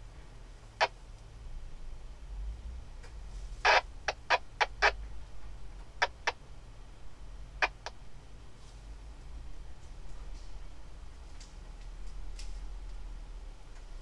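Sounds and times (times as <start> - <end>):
engine low rumble: 0.0 - 14.0.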